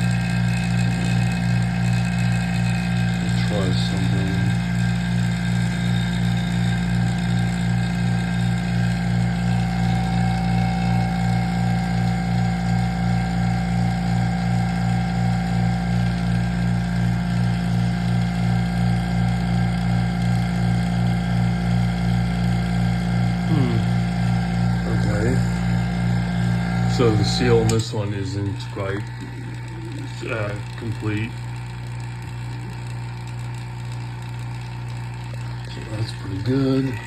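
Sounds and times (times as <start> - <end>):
vacuum pumps humming and throbbing: 0.0 - 37.0.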